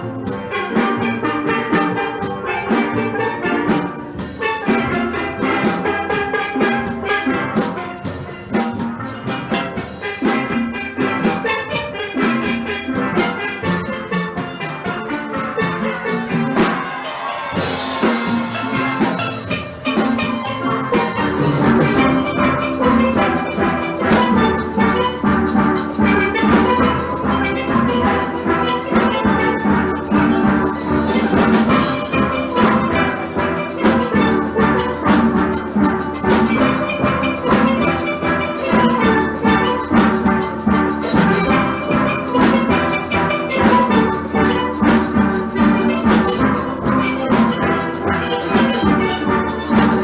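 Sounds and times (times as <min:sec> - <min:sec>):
drum percussion: 0:00.0 - 0:50.0
steelpans playing: 0:00.0 - 0:50.0.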